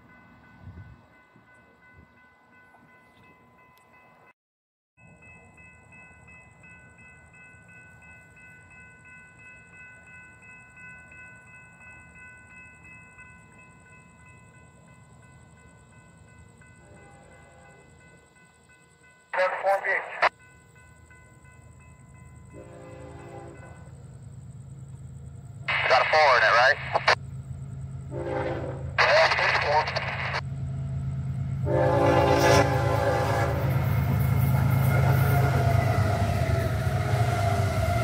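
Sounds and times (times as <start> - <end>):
railroad crossing bells ringing: 0.0 - 4.3, 5.0 - 38.0
train rumbling: 5.2 - 38.0.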